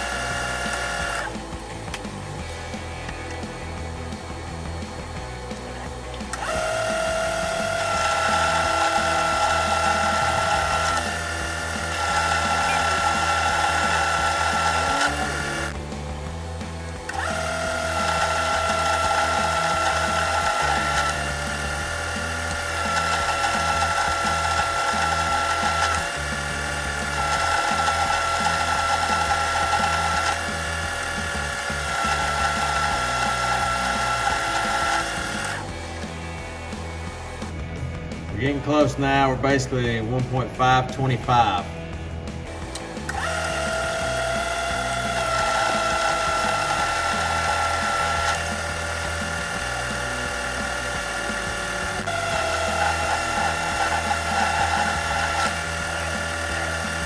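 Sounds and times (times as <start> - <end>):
metal lathe cutting whine: 4.0 - 35.9, 42.8 - 57.0.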